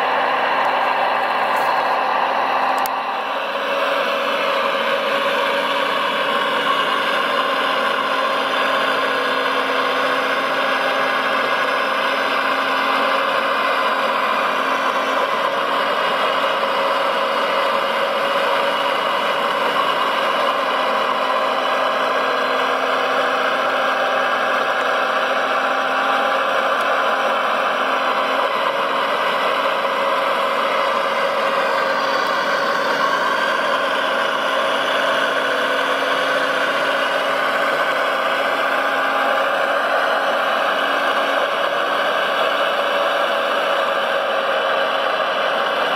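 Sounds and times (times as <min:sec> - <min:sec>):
model vehicle mechanical drone: 0:00.0 - 0:45.9.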